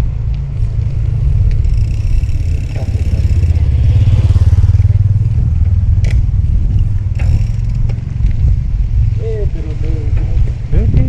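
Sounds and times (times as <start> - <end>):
wind buffeting microphone: 0.0 - 11.0
bike clicks: 0.1 - 9.1.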